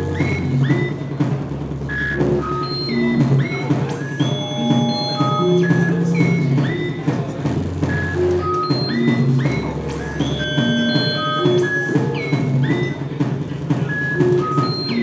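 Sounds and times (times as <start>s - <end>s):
electronic blips: 0.0s - 13.3s, 13.9s - 15.0s
swooping synthesized tones: 0.0s - 15.0s.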